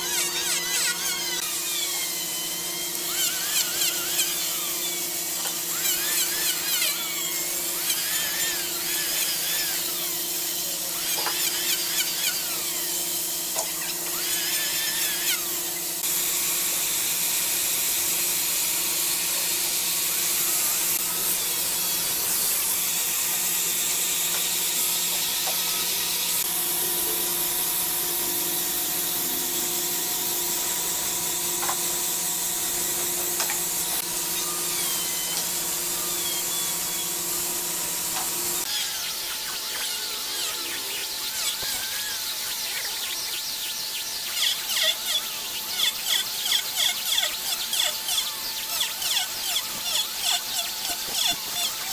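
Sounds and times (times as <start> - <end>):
power tool high whine: 0.0 - 51.9.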